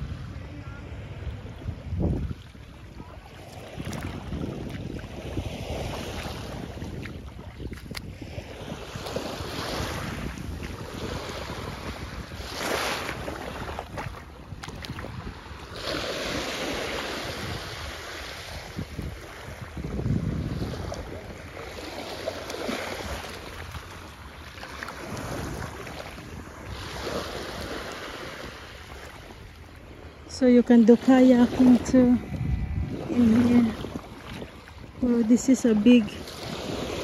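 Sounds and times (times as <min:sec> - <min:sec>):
small waves washing ashore: 0:00.0 - 0:37.0
wind gusting over microphone: 0:00.0 - 0:37.0.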